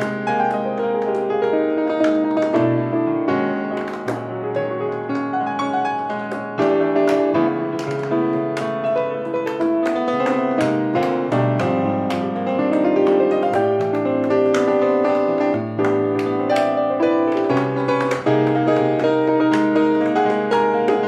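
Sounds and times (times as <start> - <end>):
grand piano playing: 0.0 - 21.0
tap shoes clicking on wood: 0.0 - 21.0.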